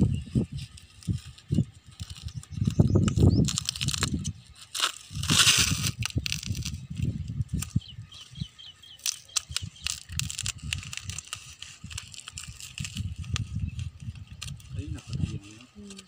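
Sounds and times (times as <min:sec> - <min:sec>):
plastic crinkling: 0:00.5 - 0:07.8, 0:08.9 - 0:16.0.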